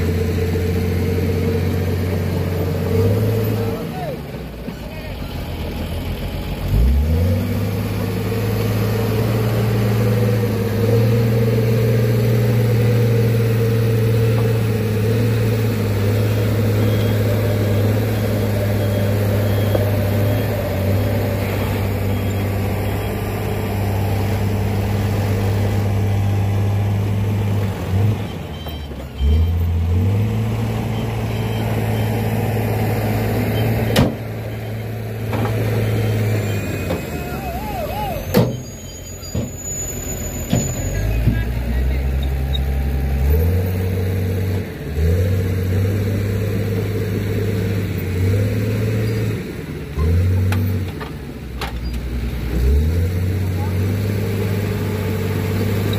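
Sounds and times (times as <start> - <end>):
diesel truck engine running: 0.0 - 55.9.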